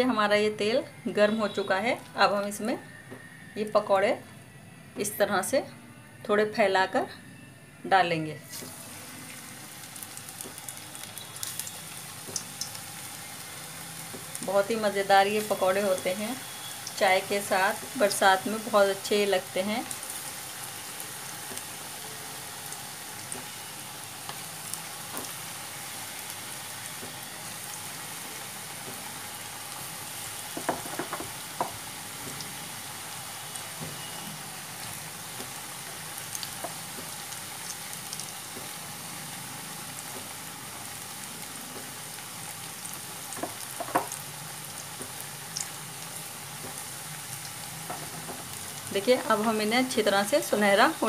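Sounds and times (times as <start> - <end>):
oil sizzling: 8.4 - 51.0.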